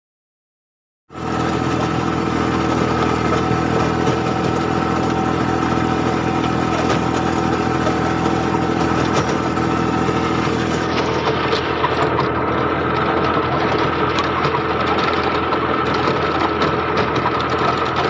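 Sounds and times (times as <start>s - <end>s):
tractor diesel engine running: 1.1s - 18.0s.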